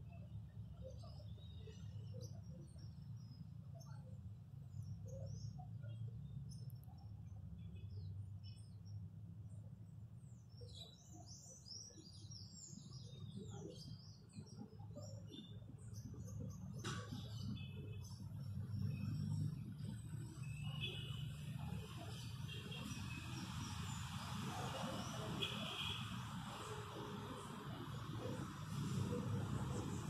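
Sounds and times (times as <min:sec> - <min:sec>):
small birds chirping and twittering: 0:00.0 - 0:30.0.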